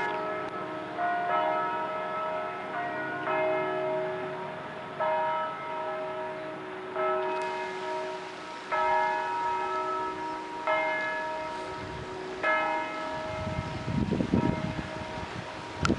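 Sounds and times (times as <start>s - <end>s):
church bell tolling: 0.0s - 15.8s.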